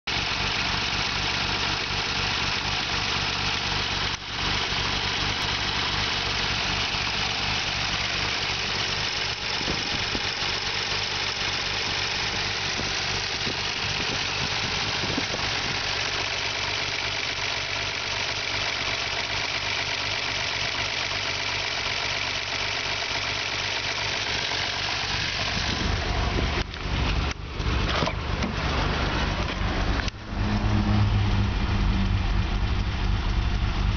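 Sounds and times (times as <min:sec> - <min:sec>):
car engine idling unevenly: 0:00.0 - 0:30.4, 0:31.2 - 0:33.9.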